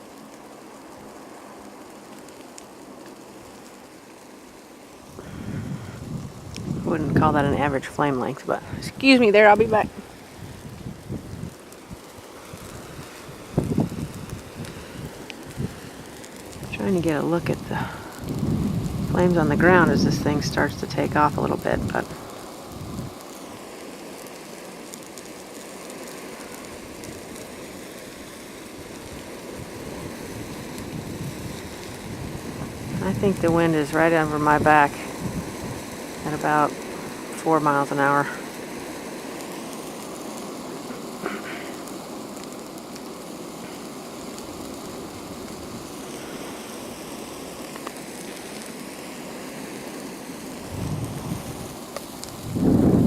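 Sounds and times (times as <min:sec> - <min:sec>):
faint fire crackles: 0:00.0 - 0:53.0
hiss of flames: 0:00.0 - 0:53.0.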